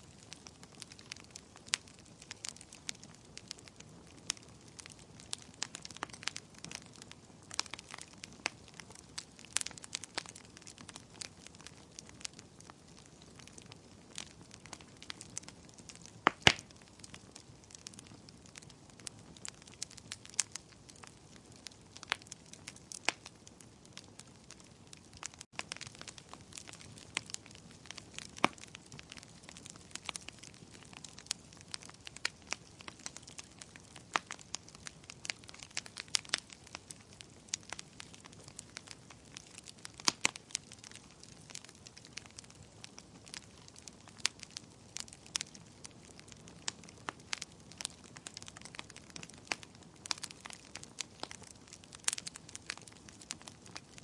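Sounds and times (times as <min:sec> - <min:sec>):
wood bonfire crackling: 0:00.0 - 0:54.0.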